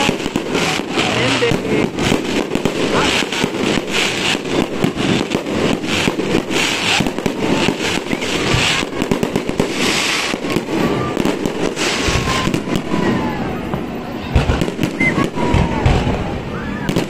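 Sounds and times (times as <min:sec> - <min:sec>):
firework shells bursting: 0:00.0 - 0:16.2
firework crackling: 0:00.0 - 0:17.0.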